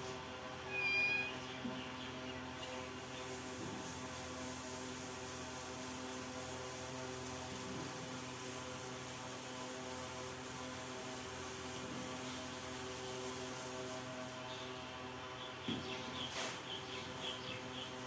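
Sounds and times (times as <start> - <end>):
steady multi-tone hum: 0.0 - 18.0.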